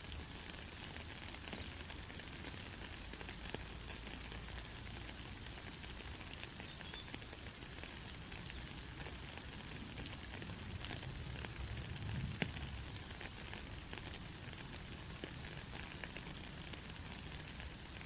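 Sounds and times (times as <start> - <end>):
faint crackles and ticks: 0.0 - 18.0
white noise hiss: 0.0 - 18.0.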